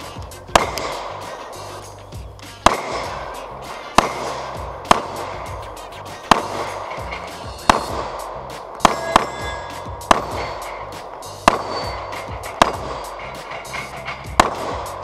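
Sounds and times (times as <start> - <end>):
funk music: 0.0 - 15.0
pistol shots: 0.0 - 15.0.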